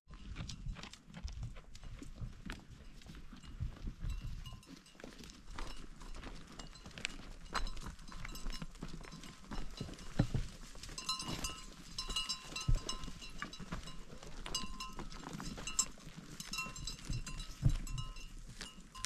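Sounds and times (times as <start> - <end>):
livestock bells clinking: 1.8 - 19.0.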